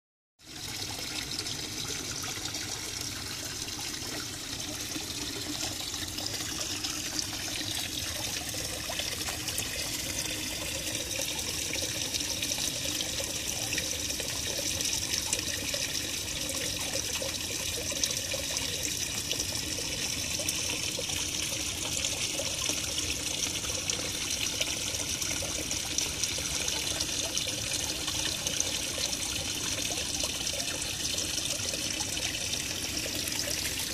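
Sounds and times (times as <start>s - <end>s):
water trickling into pond: 0.4s - 33.9s.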